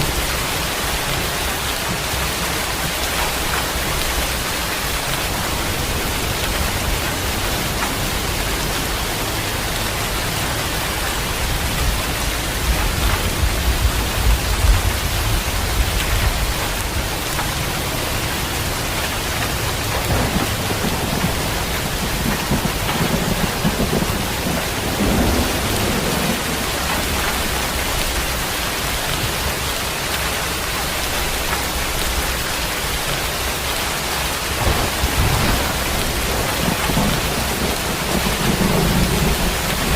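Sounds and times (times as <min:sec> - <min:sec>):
thunder rumbling: 0:00.0 - 0:29.7, 0:30.5 - 0:39.9
heavy rain hissing: 0:00.0 - 0:39.9.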